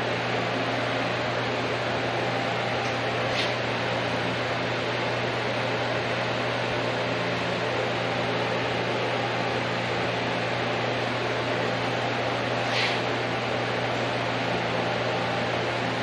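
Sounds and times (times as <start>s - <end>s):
electric fan humming: 0.0s - 16.0s.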